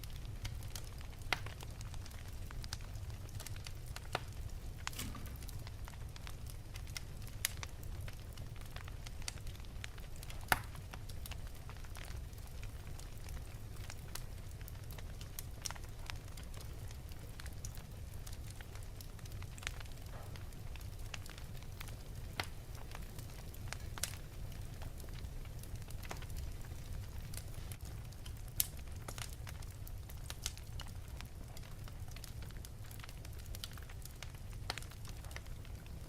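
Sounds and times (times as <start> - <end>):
fire crackles and pops: 0.0 - 36.0
wood fire rumbling: 0.0 - 36.0.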